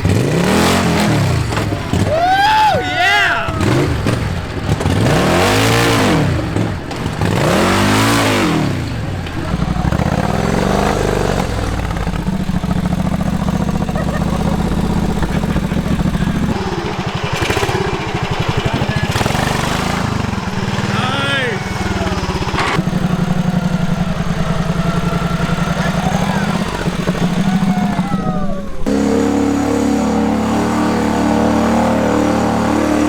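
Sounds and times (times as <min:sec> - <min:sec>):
lawn tractor engine revving: 0:00.0 - 0:33.0.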